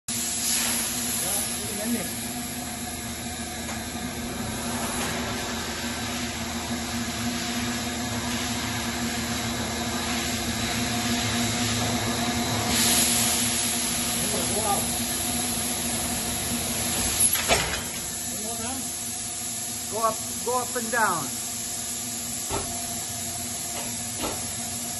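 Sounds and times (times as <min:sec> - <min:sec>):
air hissing: 0:00.1 - 0:24.9
machine hum: 0:00.8 - 0:24.9.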